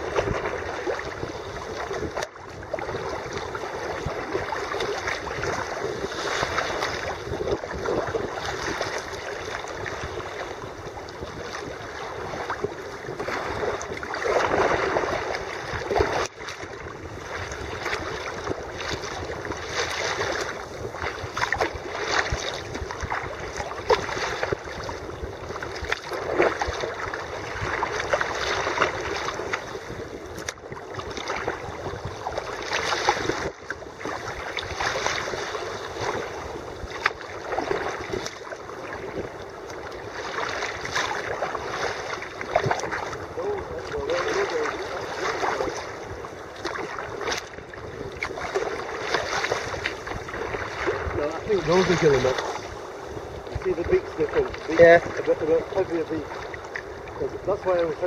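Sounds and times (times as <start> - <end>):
water splashing against kayak hull: 0.0 - 58.0
wind: 0.0 - 58.0.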